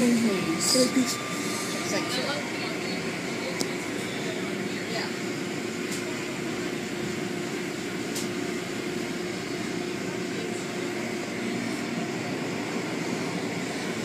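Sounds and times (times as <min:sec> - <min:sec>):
car wash equipment humming: 0:00.0 - 0:14.0.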